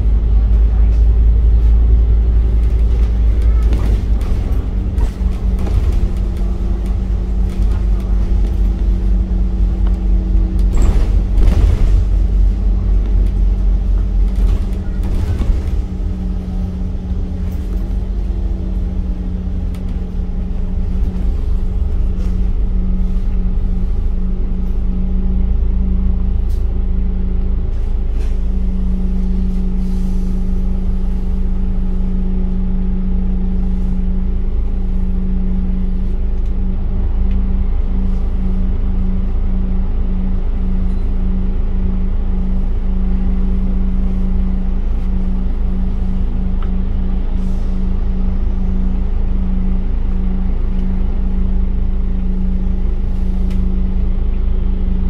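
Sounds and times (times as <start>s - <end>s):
bus engine and road rumble: 0.0s - 55.0s
wavering droning hum: 0.0s - 55.0s.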